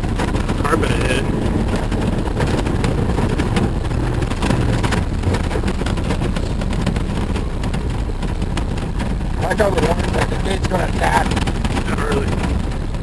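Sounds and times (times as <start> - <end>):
knocks and rattles over bumps: 0.0 - 13.0
vehicle engine running: 0.0 - 13.0.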